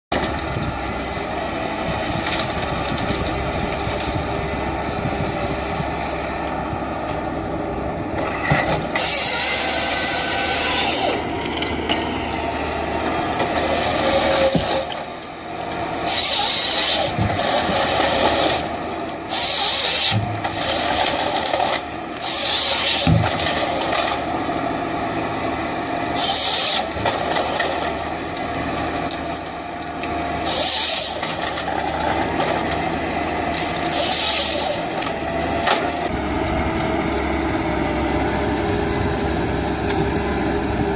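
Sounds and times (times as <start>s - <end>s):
heavy machinery engine running: 0.1s - 40.9s.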